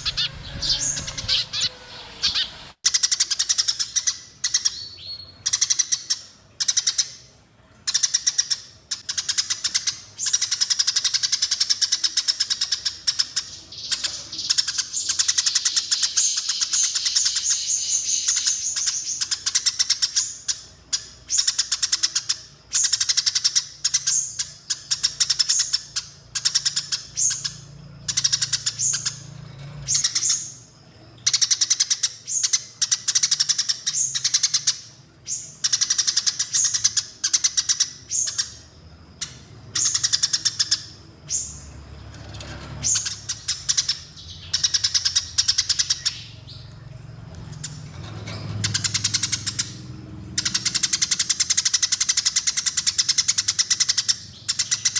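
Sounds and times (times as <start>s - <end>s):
sparrows chirping: 0.0s - 54.9s.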